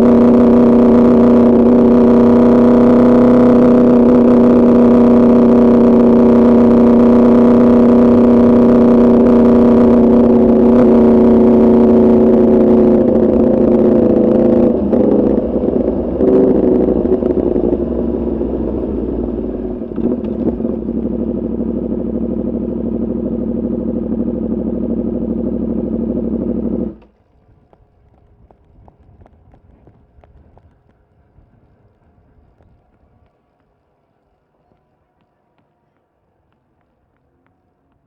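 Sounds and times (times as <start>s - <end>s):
motorcycle engine running at low revs: 0.0s - 33.2s.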